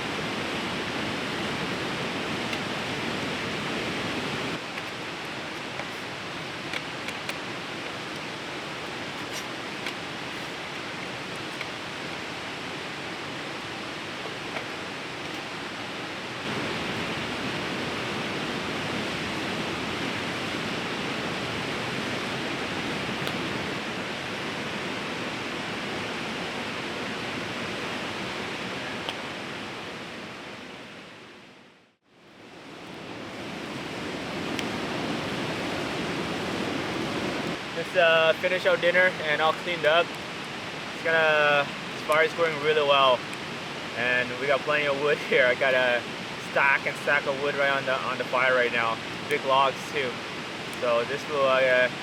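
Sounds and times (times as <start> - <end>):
fast-flowing river rushing: 0.0 - 31.6, 32.3 - 52.0.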